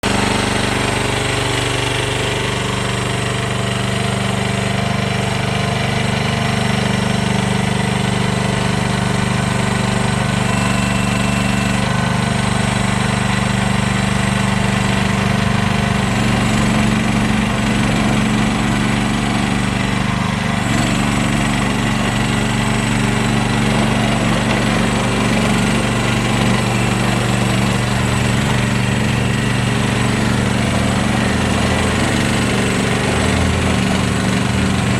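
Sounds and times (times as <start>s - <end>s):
loader engine running: 0.0s - 34.9s.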